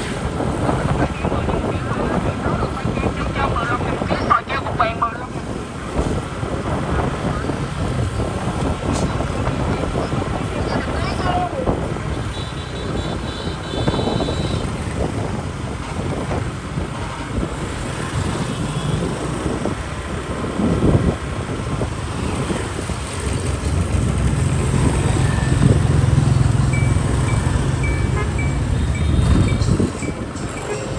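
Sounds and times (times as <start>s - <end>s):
motorbike engines and tyre noise: 0.0s - 30.9s
wind on microphone: 0.0s - 30.9s.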